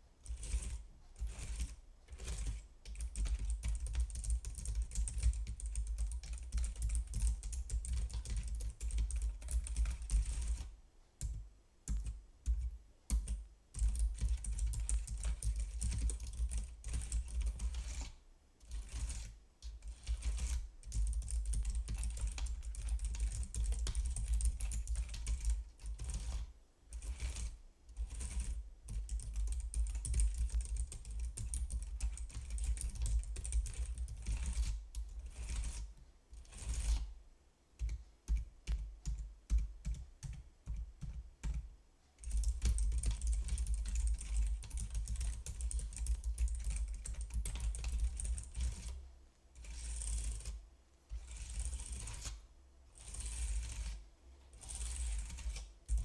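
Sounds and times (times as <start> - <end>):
computer keyboard typing: 0.3 - 18.1, 18.7 - 35.8, 37.8 - 49.0.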